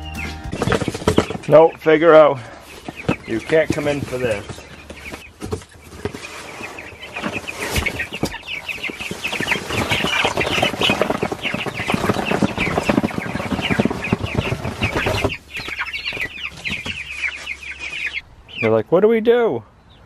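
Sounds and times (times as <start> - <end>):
chicks peeping: 0.0 - 20.0
cardboard and straw rustling: 0.1 - 18.2.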